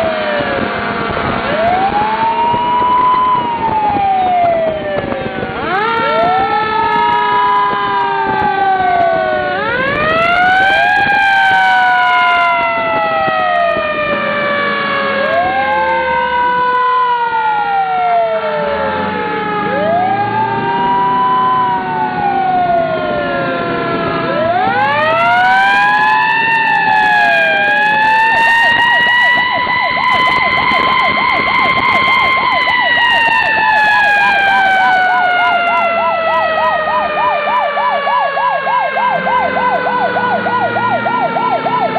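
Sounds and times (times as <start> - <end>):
electronic siren yelp: 0.0 - 41.9
emergency vehicle sirens wailing: 0.0 - 41.9.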